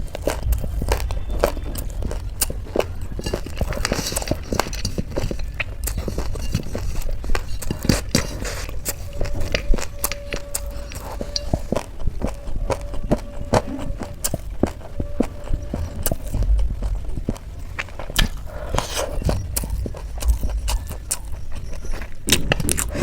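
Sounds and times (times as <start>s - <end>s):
chewing and crunching snacks: 0.0s - 23.0s.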